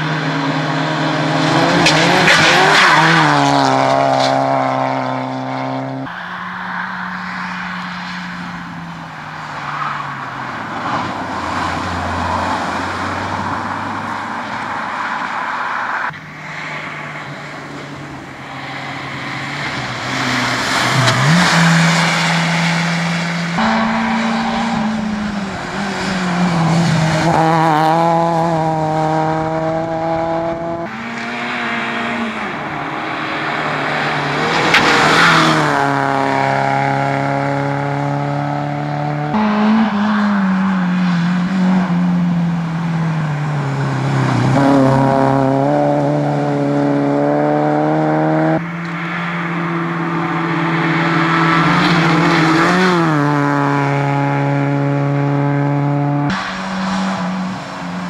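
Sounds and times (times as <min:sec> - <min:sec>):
rally car engines at full throttle: 0:00.0 - 0:58.0.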